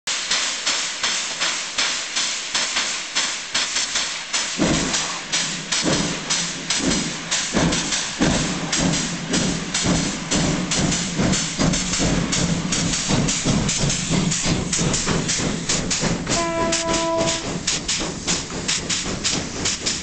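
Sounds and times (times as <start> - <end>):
steam locomotive exhaust chuffing: 0.1 - 20.0.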